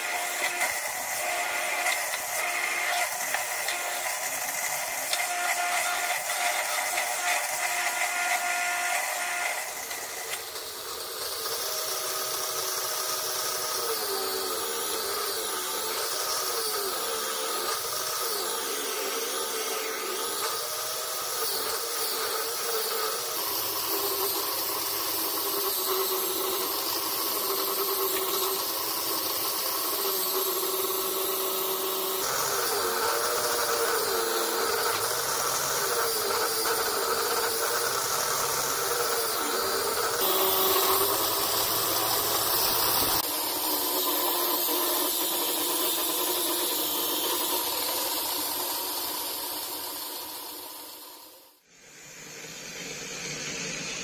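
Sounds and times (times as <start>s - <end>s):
angle grinder motor whine: 0.0s - 54.0s.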